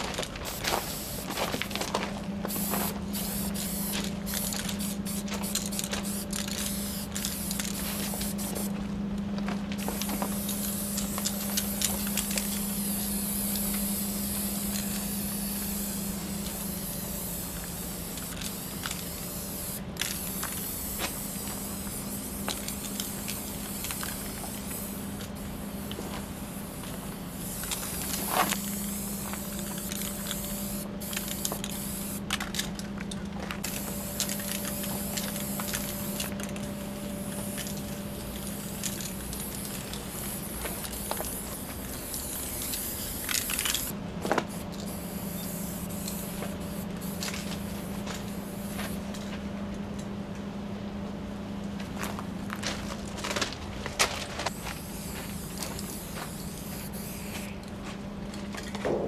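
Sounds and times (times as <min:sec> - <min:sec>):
low hum: 0:00.0 - 0:52.6
spray paint can hissing: 0:00.4 - 0:01.8, 0:02.5 - 0:08.7, 0:09.8 - 0:32.6, 0:33.6 - 0:49.0, 0:54.5 - 0:57.6.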